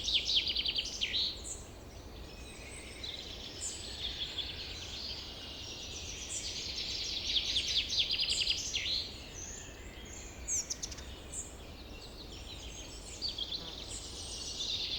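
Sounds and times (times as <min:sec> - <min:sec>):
forest birds chirping: 0:00.0 - 0:14.9.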